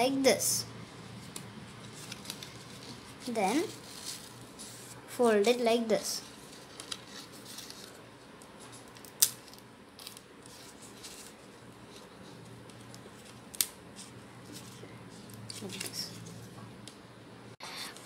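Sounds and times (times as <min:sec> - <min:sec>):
leaf crackling as folded: 0:01.2 - 0:05.5, 0:06.2 - 0:16.4.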